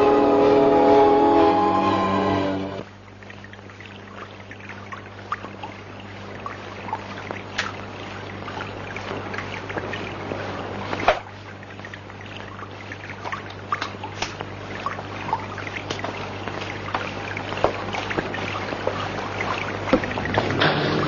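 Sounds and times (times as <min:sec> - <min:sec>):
low hum: 0:00.0 - 0:21.0
shower water splashing: 0:02.8 - 0:21.0.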